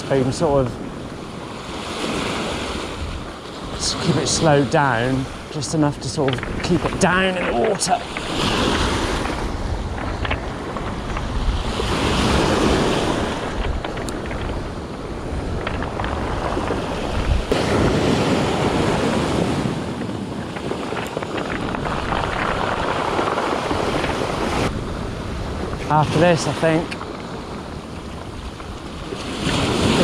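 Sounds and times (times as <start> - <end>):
waves washing over pebbles: 0.0 - 30.0
wind buffeting microphone: 0.0 - 30.0.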